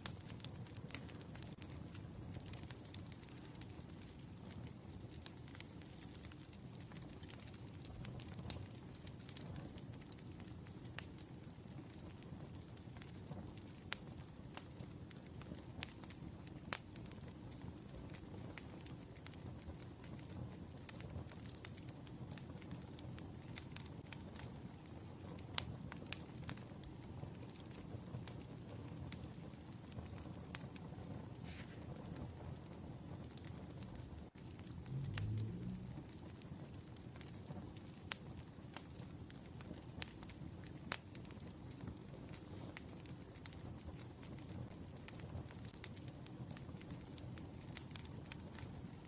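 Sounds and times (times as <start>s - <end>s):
fire crackles and pops: 0.0s - 49.0s
wood fire rumbling: 0.0s - 49.0s.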